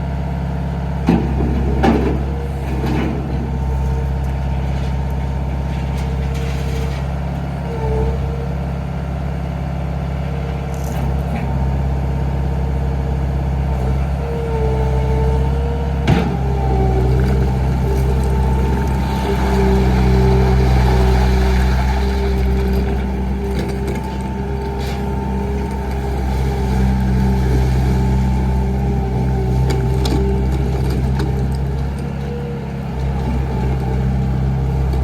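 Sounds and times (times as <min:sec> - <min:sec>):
diesel engine running: 0:00.0 - 0:35.0
high engine whine: 0:00.0 - 0:35.0.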